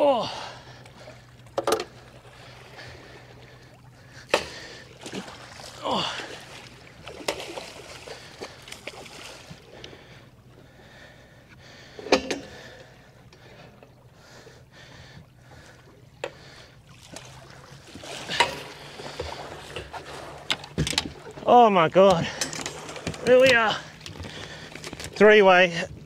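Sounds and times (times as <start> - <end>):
water lapping against boat hull: 0.0 - 26.0
knocks and clatters in boat: 0.8 - 10.2, 11.0 - 14.1, 15.1 - 26.0.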